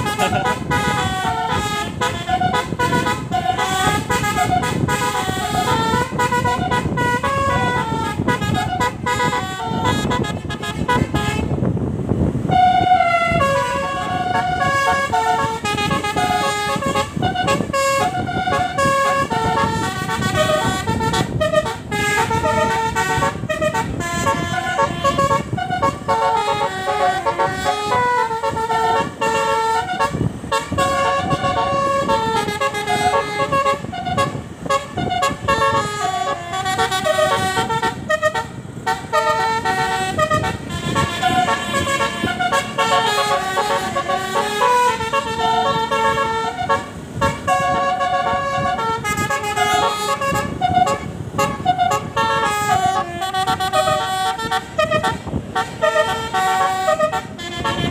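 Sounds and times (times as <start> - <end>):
bus musical horn melody: 0.0 - 57.9.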